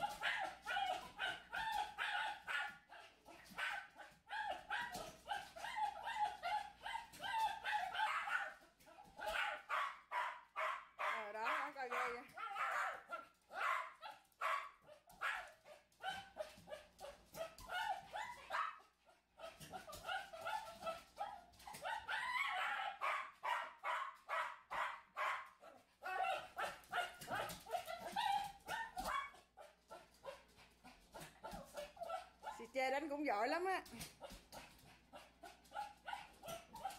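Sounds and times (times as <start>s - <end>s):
small dog barking: 0.0s - 30.5s, 35.2s - 36.9s.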